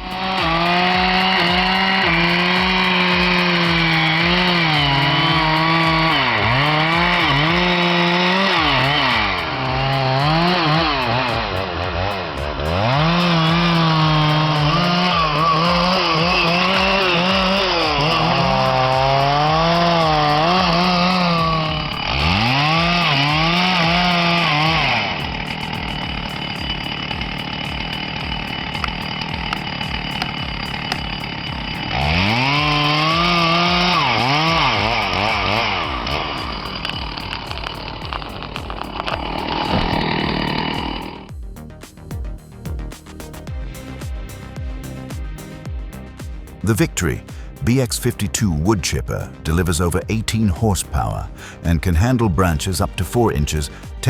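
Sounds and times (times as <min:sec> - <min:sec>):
chainsaw cutting wood: 0:00.0 - 0:41.4, 0:42.9 - 0:54.0.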